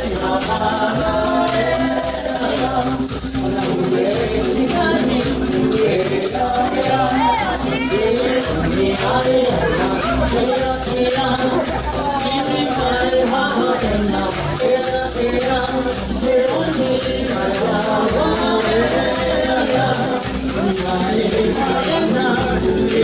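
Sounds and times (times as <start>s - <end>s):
live music with low beat: 0.0s - 23.0s
rattle shaking: 0.0s - 23.0s.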